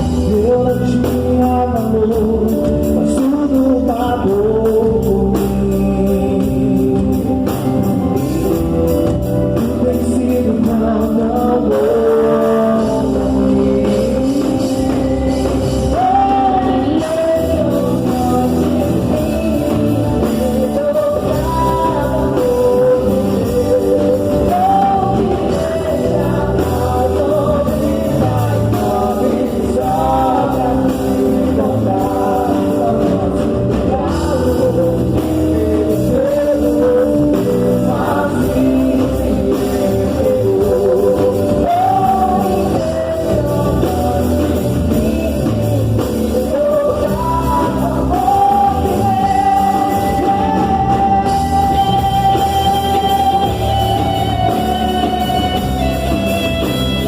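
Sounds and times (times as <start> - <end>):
band with bass and drums: 0.0 - 57.0
gospel singing voices: 0.0 - 57.0.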